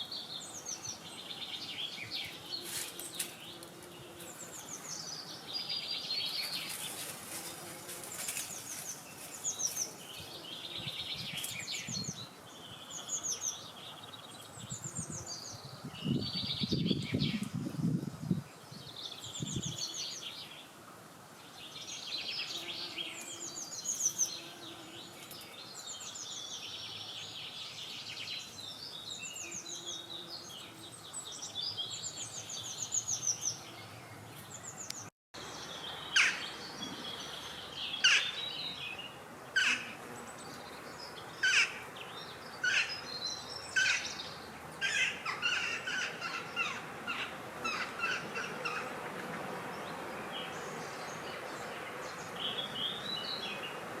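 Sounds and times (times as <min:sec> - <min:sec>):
birds singing trills and chirps: 0:00.0 - 0:20.8, 0:21.4 - 0:49.0, 0:49.7 - 0:53.8.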